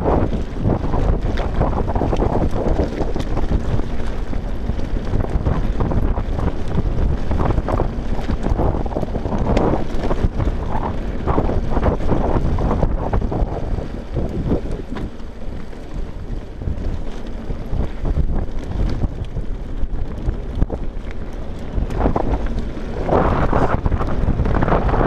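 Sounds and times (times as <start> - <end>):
bike rattling: 0.0 - 25.0
wind buffeting microphone: 0.0 - 25.0
tyres crunching on gravel: 0.1 - 25.0.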